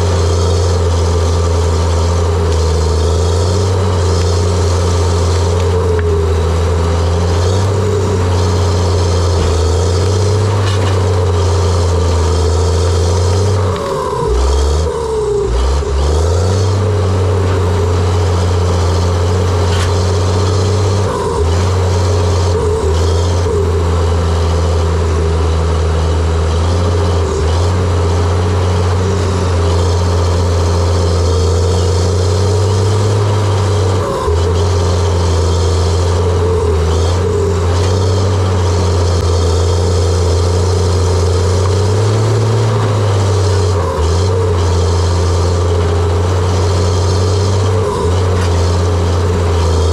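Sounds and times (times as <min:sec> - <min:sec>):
diesel engine running: 0:00.0 - 0:49.9
mechanical whine: 0:00.0 - 0:49.9.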